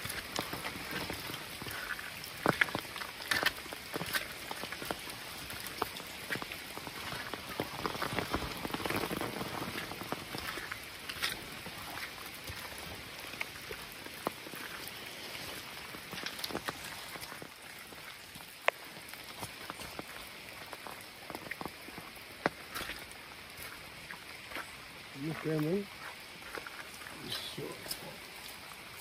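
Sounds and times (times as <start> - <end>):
water pattering and dripping: 0.0 - 29.0.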